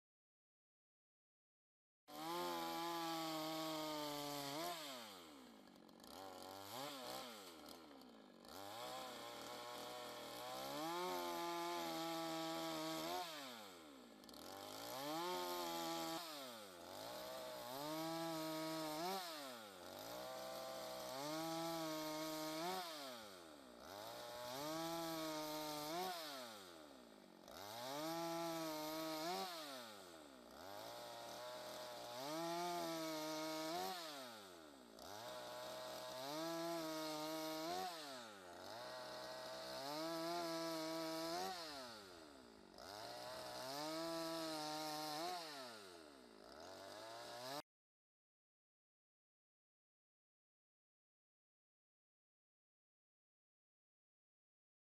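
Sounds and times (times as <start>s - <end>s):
chainsaw sawing a log: 2.1s - 47.7s.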